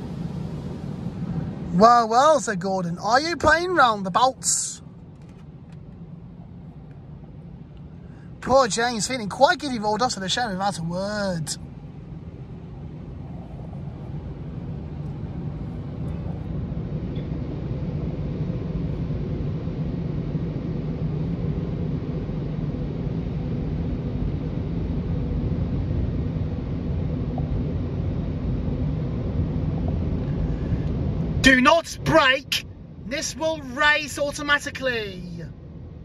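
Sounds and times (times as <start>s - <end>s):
car wash machinery rumble: 0.0s - 34.9s.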